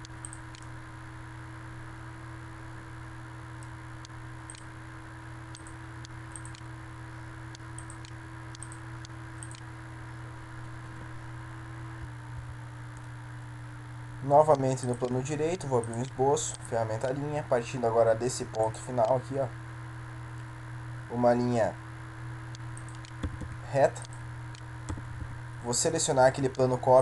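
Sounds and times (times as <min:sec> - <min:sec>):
electrical hum and hiss: 0:00.0 - 0:27.0.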